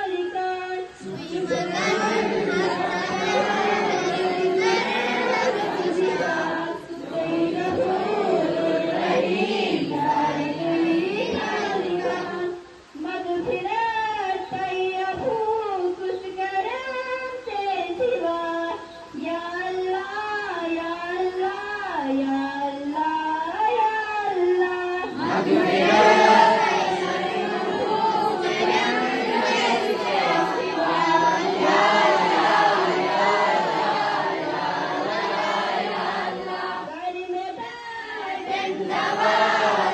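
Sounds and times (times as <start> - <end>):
students singing prayer together: 0.0 - 23.6, 24.6 - 39.9.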